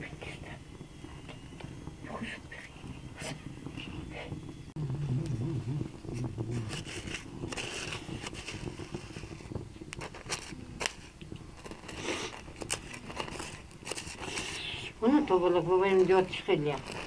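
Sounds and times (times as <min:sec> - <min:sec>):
crackles and sharp clicks: 0:00.0 - 0:17.0.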